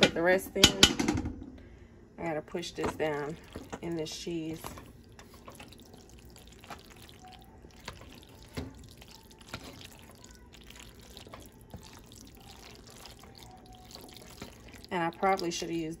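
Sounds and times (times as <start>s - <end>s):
wet squishing of macaroni stirred: 2.7s - 16.0s.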